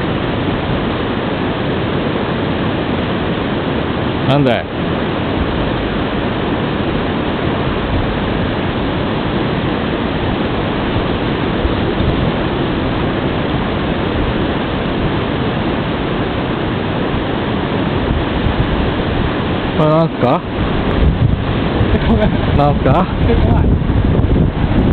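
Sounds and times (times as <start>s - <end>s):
fast-flowing stream rushing: 0.0s - 24.9s.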